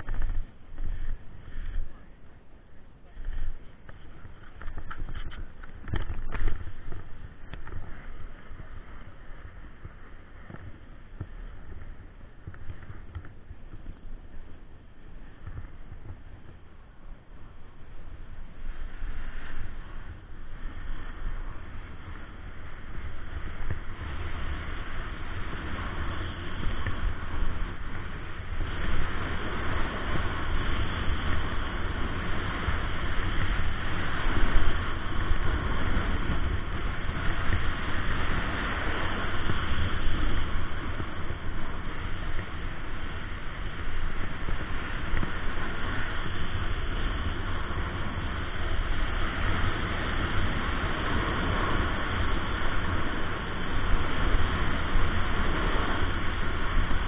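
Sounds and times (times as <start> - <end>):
wind buffeting microphone: 0.0 - 57.0
snowboard scraping on snow: 3.1 - 14.6, 17.5 - 57.0.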